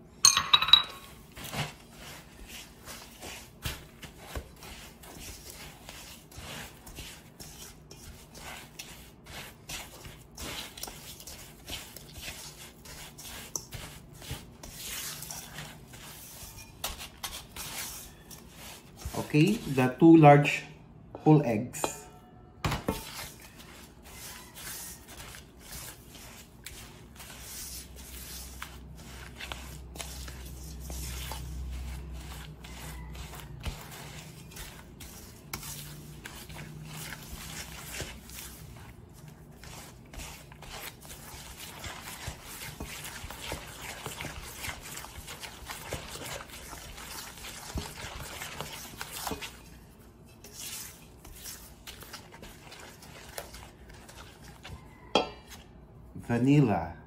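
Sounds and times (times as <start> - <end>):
spatula scraping batter in metal bowl: 1.0 - 20.6, 22.8 - 55.7.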